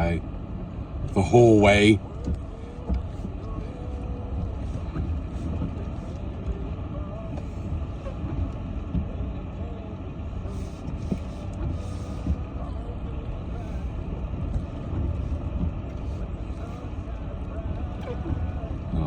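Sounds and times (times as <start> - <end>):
tyres on snowy road: 0.0 - 19.0
vehicle engine rumble: 0.0 - 19.0.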